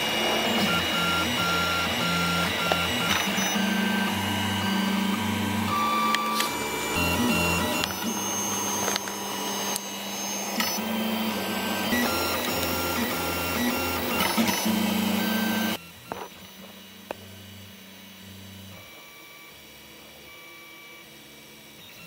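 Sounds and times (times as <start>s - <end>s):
stepper motors whining: 0.0s - 19.4s.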